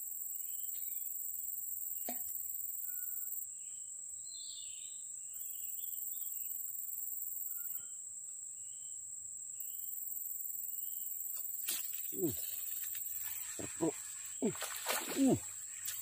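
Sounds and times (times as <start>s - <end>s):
higher insect layer: 0.0s - 16.0s
insect chorus buzzing: 0.0s - 16.0s.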